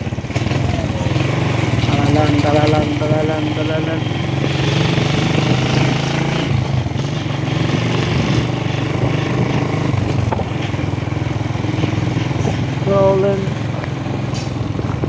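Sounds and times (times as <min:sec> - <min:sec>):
motorcycle engine running: 0:00.0 - 0:15.0
wind on microphone: 0:00.0 - 0:15.0.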